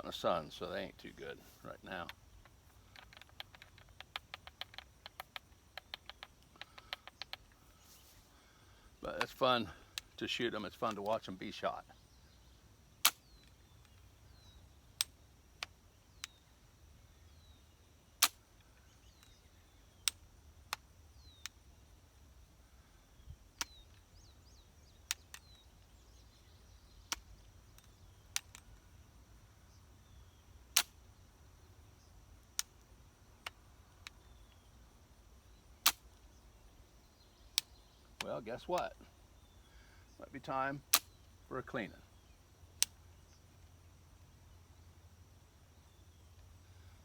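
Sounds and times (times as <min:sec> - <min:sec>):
faint bird chirps: 0:00.0 - 0:10.5, 0:11.4 - 0:47.0.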